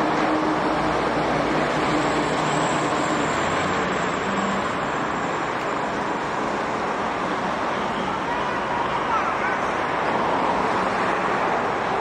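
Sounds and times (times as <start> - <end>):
heavy truck engine: 0.0 - 12.0
highway traffic: 0.0 - 12.0.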